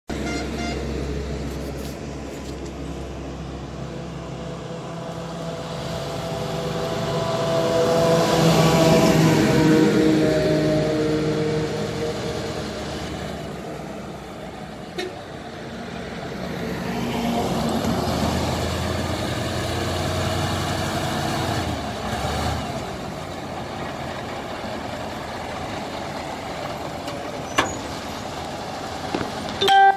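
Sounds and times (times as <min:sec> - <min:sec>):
crane diesel engine rumbling: 0:00.1 - 0:29.9.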